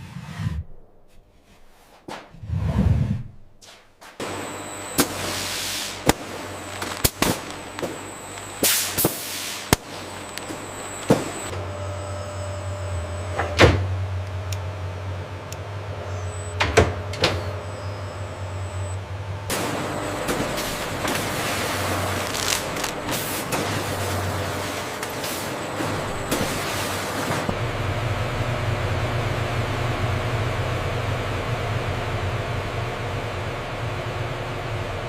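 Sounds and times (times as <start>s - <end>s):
factory machinery humming: 4.2s - 35.0s.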